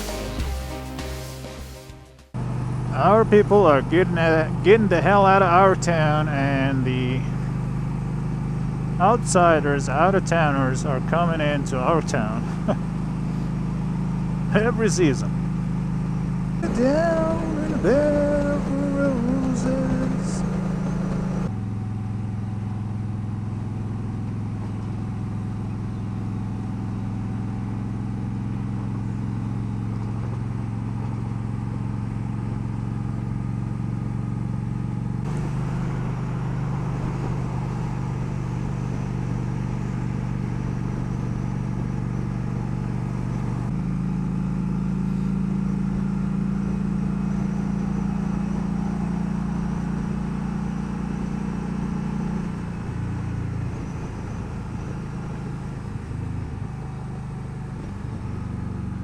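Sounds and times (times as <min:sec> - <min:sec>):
motorcycle engine running: 0:02.3 - 0:59.0.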